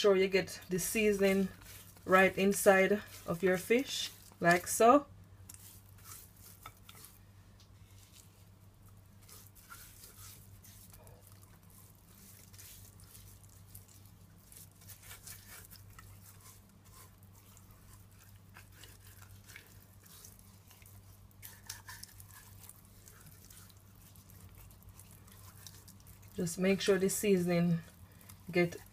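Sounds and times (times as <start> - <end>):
hands squishing paste into fish: 0.8 - 4.8, 5.4 - 28.9.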